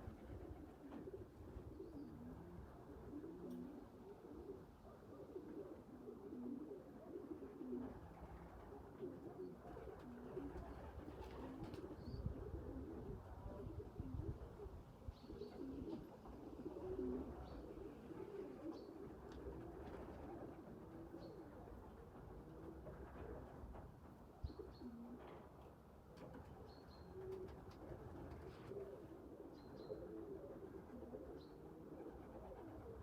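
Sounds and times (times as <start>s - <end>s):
pigeons cooing: 0.0s - 25.5s, 26.2s - 33.0s.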